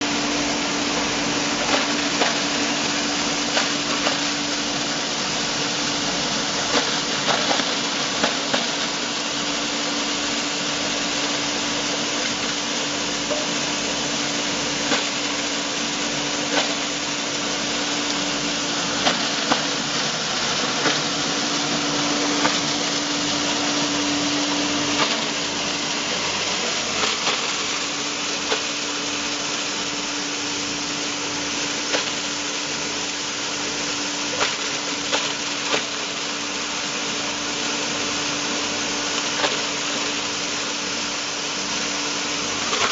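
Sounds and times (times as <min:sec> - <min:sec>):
plastic grinder motor hum: 0:00.0 - 0:42.9.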